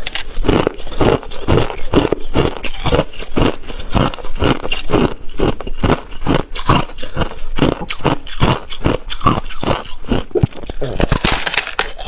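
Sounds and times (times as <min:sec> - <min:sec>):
ice being chewed: 0:00.0 - 0:12.0.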